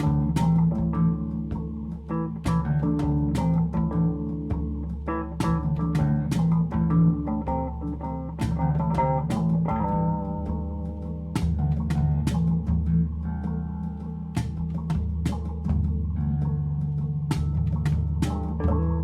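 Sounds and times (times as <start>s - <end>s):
guitar and bass music: 0.0s - 19.0s
steady drum beat: 0.0s - 19.0s.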